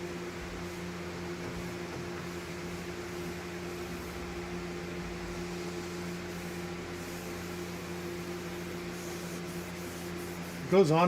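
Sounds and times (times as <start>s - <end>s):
fan air rushing: 0.0s - 11.0s
fan motor hum: 0.0s - 11.0s.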